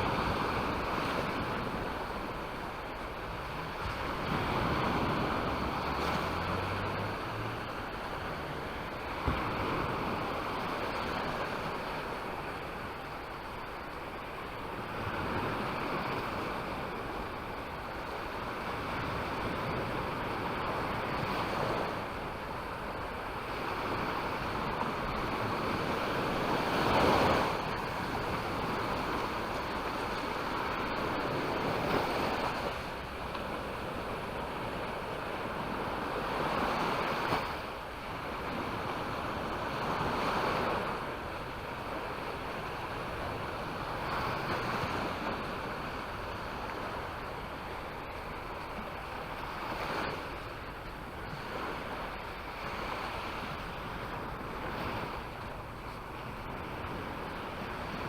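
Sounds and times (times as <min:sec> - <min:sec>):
waves breaking on beach: 0:00.0 - 0:58.0
wind on microphone: 0:00.0 - 0:58.0.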